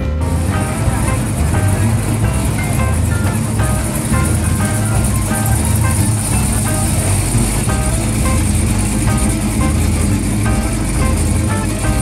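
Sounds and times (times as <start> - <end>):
car engine running: 0.0 - 12.0
music playing: 0.0 - 12.0.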